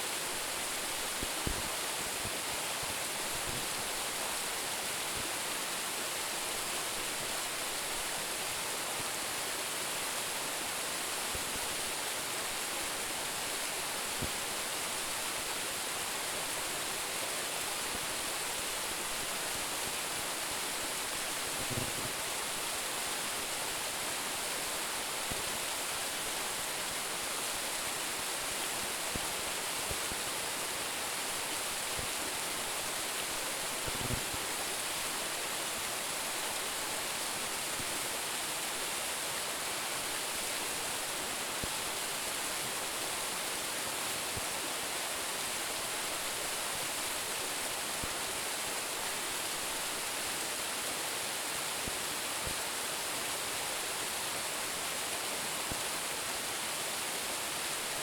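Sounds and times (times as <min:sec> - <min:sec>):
waterfall hiss: 0:00.0 - 0:58.0.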